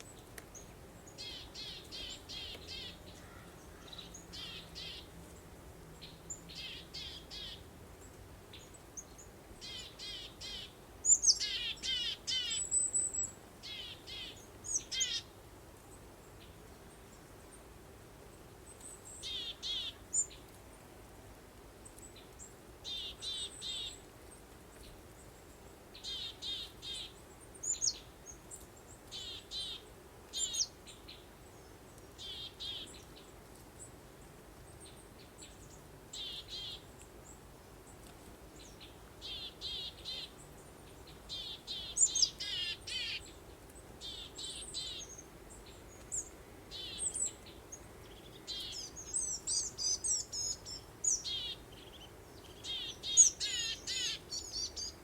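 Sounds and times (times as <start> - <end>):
faint breeze: 0.0 - 55.0
songbirds chirping: 0.0 - 55.0.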